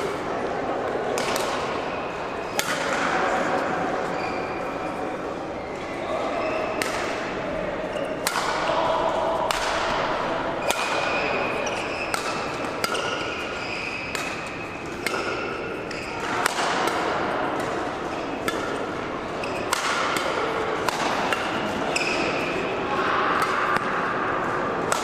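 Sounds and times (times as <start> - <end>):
rackets hitting shuttlecock: 0.4 - 3.9, 6.7 - 7.4, 8.1 - 25.0.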